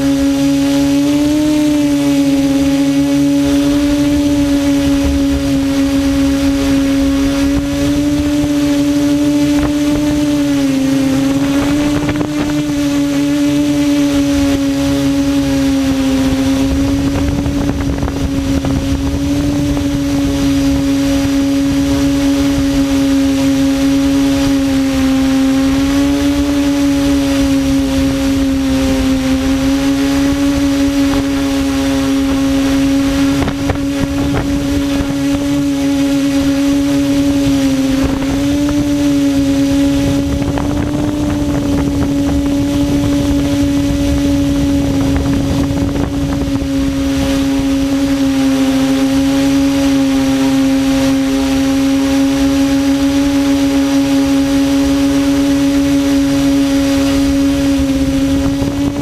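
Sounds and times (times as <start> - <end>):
quadcopter motors humming: 0.0 - 59.0.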